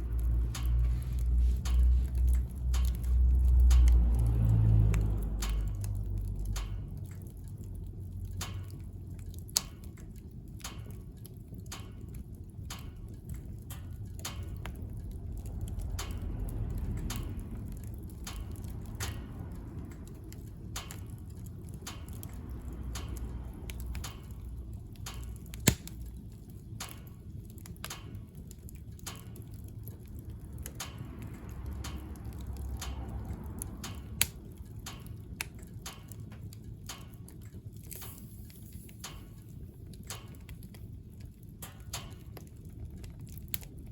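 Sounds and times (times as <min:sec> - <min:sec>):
wood fire crackling in stove: 0:00.0 - 0:43.9
sharp pops of burning wood: 0:08.2 - 0:43.9.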